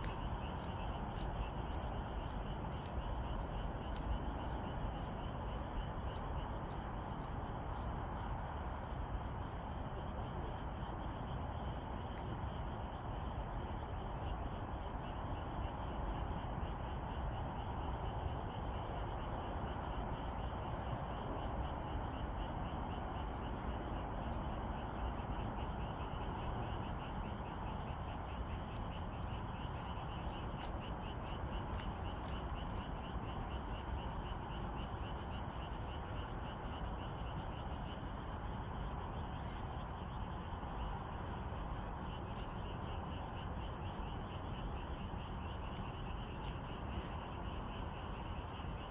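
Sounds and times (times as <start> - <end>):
chorus of frogs croaking: 0.0 - 48.9.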